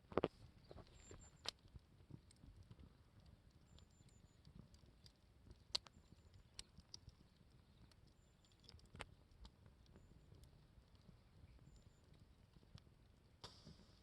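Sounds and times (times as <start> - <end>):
campfire crackling: 0.0 - 14.0
fire pops: 0.0 - 14.0.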